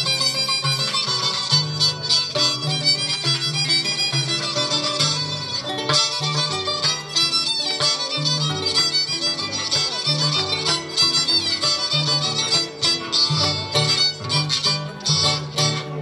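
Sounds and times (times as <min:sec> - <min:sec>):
fast violin melody: 0:00.0 - 0:16.0
plucked harp bass notes: 0:00.0 - 0:16.0.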